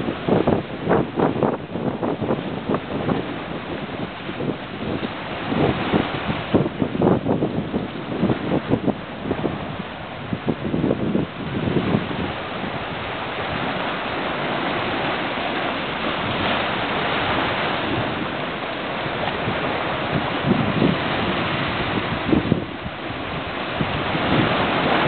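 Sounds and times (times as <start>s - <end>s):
sea surf breaking on rocks: 0.0s - 25.0s
wind rumbling on microphone: 0.0s - 25.0s.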